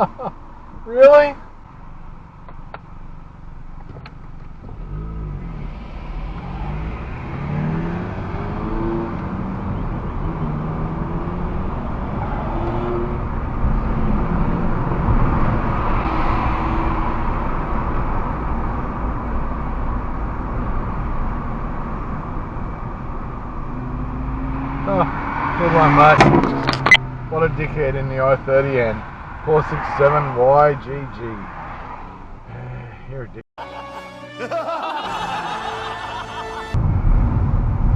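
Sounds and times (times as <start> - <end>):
road and tyre noise: 0.0 - 37.9
car engine accelerating: 2.5 - 33.4.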